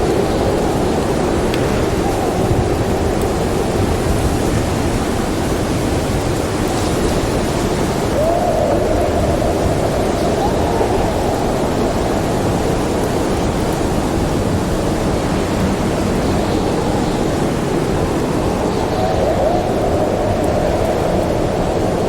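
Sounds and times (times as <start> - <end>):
howling storm wind: 0.0 - 22.0.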